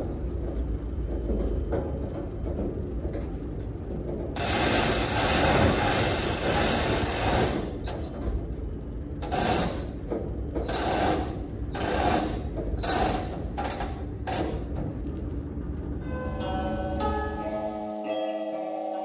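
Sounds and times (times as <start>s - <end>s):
forklift mechanical noise: 0.0s - 18.1s.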